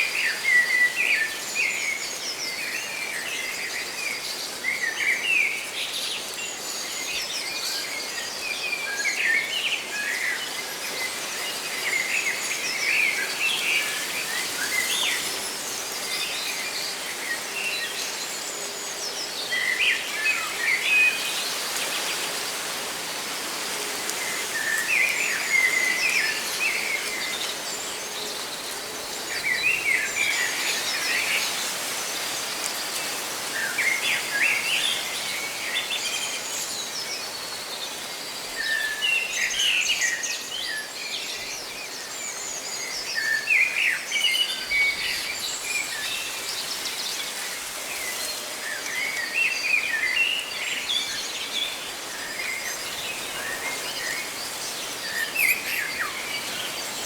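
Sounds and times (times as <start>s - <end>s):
rustling leaves: 0.0s - 57.0s
songbirds chirping: 0.1s - 57.0s.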